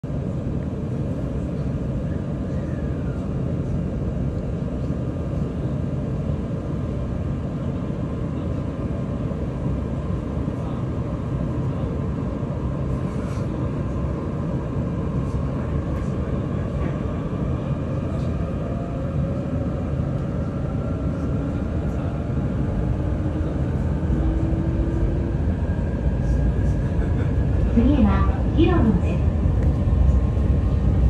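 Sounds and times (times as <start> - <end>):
train wheels rumbling on rail: 0.2 - 31.0.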